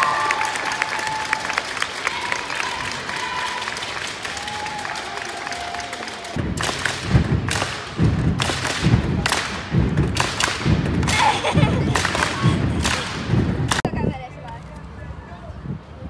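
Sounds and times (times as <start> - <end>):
spectators stomping and clapping: 0.0 - 13.9.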